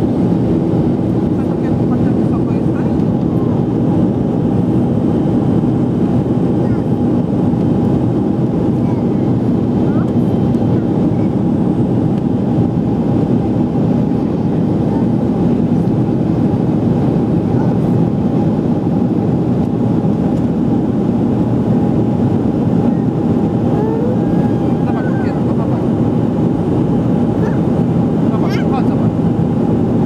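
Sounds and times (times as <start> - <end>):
jet engine and airflow rumble: 0.0 - 30.0.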